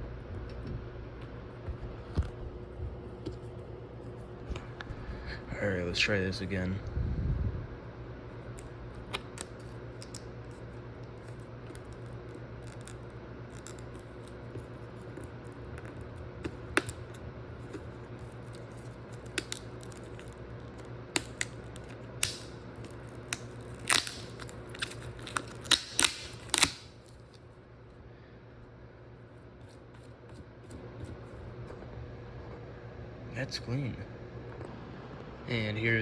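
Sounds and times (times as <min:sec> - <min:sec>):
low electric hum: 0:00.0 - 0:36.0.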